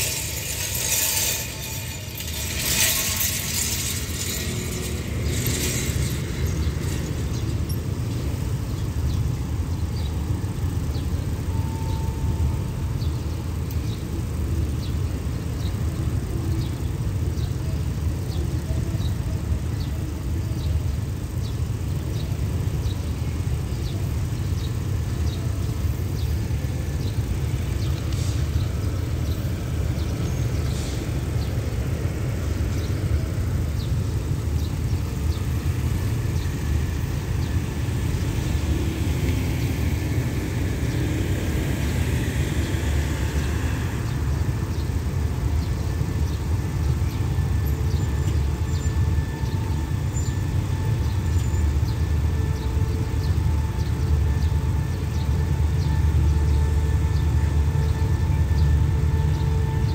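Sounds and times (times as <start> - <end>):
diesel train low rumble: 0.0 - 59.9.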